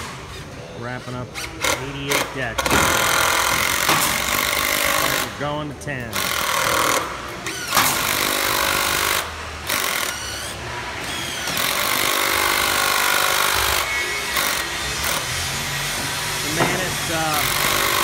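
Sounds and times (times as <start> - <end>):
power screw guns driving screws: 1.4 - 5.4, 6.1 - 18.0.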